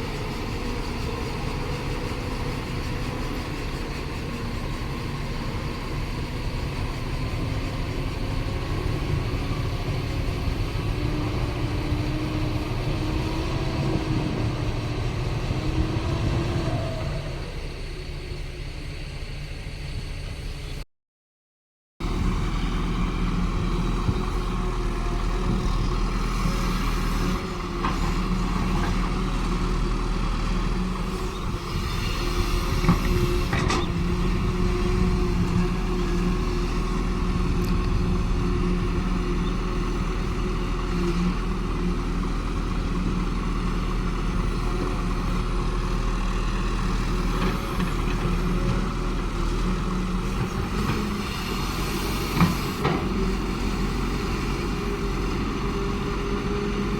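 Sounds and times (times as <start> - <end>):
excavator diesel engine running: 0.0 - 20.8, 22.0 - 56.9.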